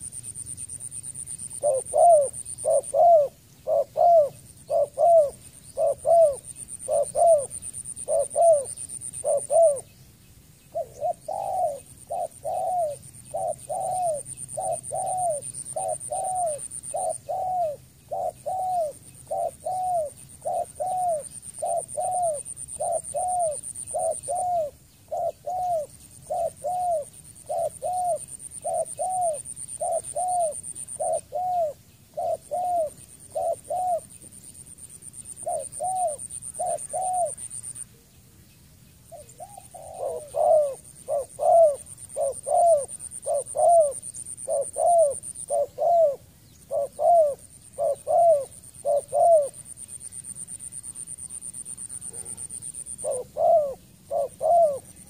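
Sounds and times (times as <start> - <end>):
dove cooing: 1.1 - 9.9, 10.7 - 34.3, 35.1 - 38.0, 39.1 - 55.0.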